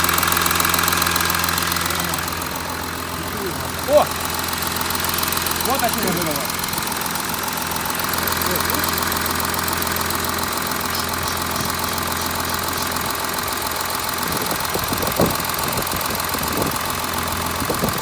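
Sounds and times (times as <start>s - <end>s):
diesel engine idling: 0.0s - 18.0s
rasping swishing engine noise: 0.0s - 18.0s.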